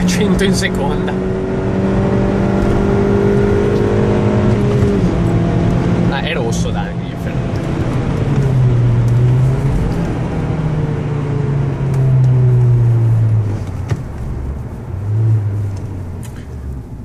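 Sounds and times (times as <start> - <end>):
car engine slowing down: 0.0 - 17.0
road noise inside car: 0.0 - 17.0.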